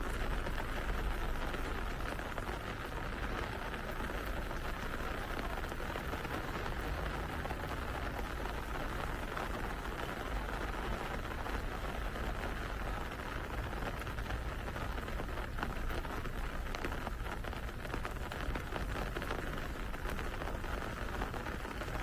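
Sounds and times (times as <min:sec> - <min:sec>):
rain falling on a street: 0:00.0 - 0:22.0.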